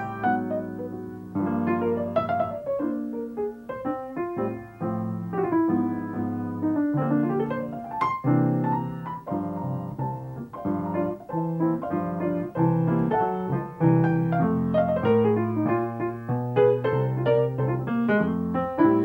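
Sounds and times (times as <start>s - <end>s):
solo piano playing chords: 0.0s - 19.0s.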